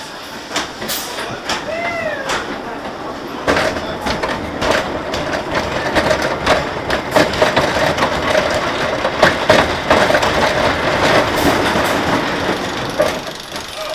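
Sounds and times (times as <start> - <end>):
roller coaster rattling on track: 0.0 - 13.9
sharp knocks from wheels: 0.5 - 13.9.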